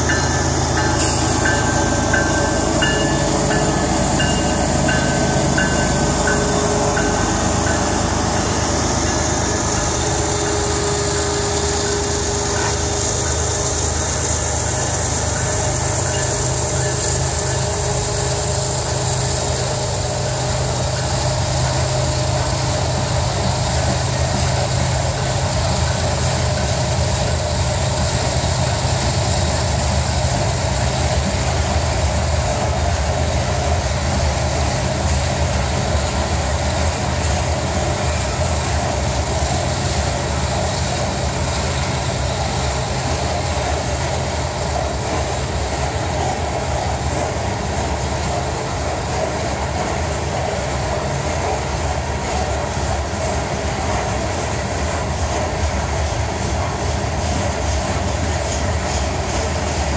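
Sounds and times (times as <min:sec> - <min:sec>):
diesel locomotives passing: 0:00.0 - 0:59.9
steel wheels on rail: 0:00.0 - 0:59.9.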